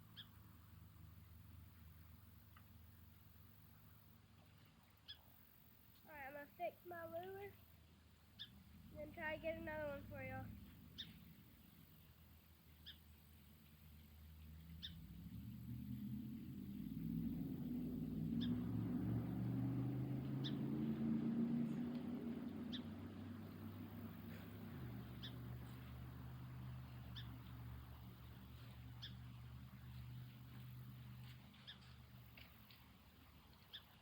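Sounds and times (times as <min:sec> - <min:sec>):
low motor hum: 0:05.9 - 0:33.8.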